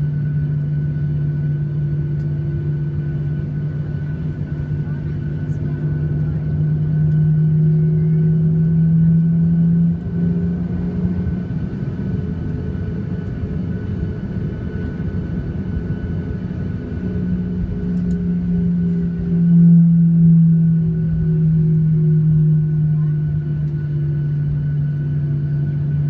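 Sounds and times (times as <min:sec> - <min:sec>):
aircraft engine and wheel rumble: 0:00.0 - 0:26.0
steady low hum: 0:00.0 - 0:26.0.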